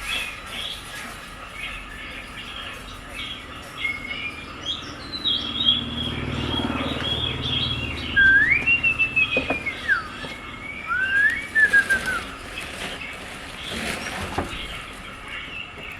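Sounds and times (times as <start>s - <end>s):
birds chirping and whistling: 0.0s - 15.9s.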